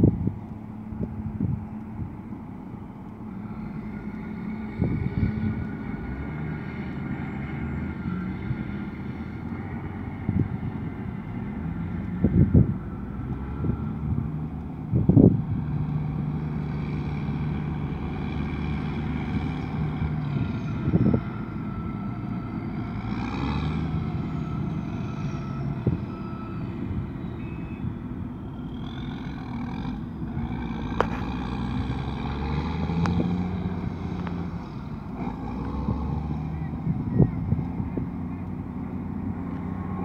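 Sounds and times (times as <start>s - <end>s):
heavy diesel engines droning: 0.0s - 40.0s.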